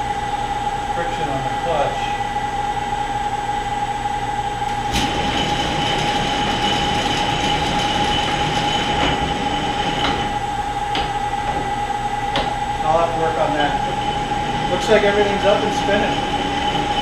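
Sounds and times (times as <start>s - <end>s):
lathe motor whining: 0.0s - 17.0s.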